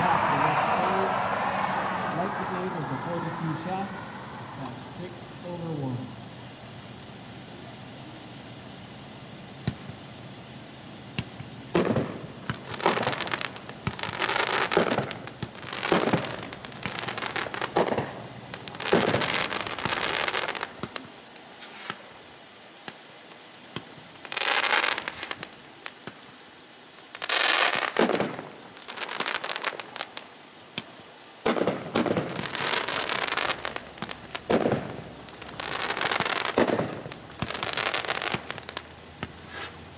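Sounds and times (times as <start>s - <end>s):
fireworks shells bursting: 0.0s - 7.3s, 11.2s - 39.9s
fireworks crackle: 0.0s - 39.9s.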